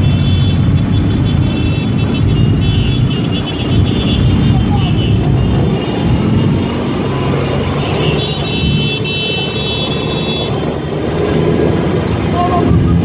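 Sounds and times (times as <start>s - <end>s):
motorcycle engine cruising: 0.0s - 13.0s
other motorcycles running: 0.0s - 13.0s.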